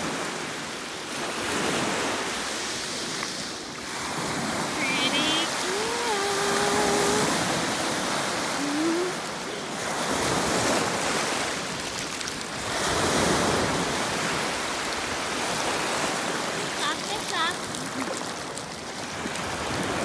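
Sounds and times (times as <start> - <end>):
small surf breaking on beach: 0.0 - 20.0.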